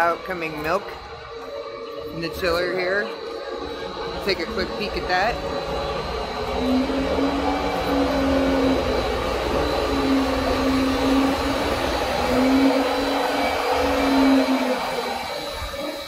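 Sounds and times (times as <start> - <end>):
machinery whirring with high whine: 0.0 - 16.0.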